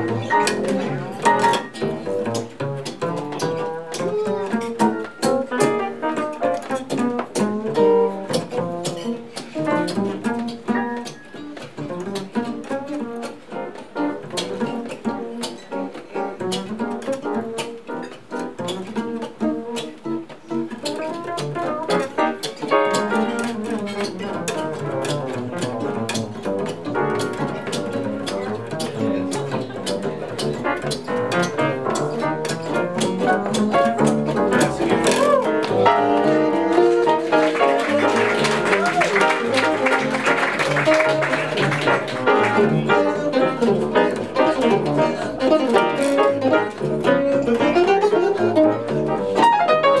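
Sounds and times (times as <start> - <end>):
double bass plucked: 0.0 - 50.0
electric guitar playing: 0.0 - 50.0.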